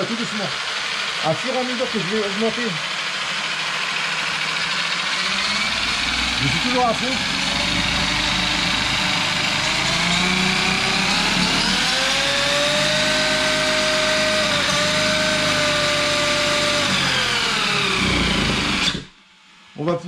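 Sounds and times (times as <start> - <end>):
electric motor whining: 0.0 - 19.2.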